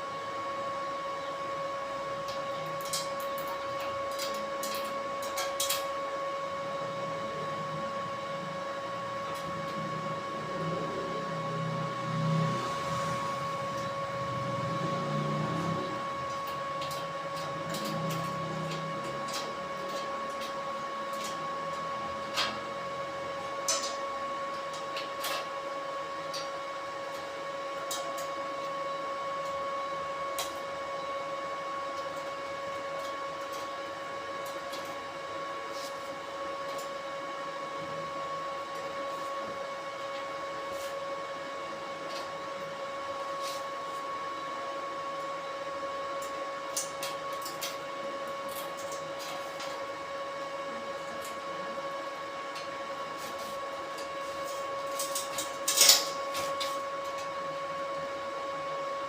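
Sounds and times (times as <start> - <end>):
steady machine whine: 0.0 - 59.0.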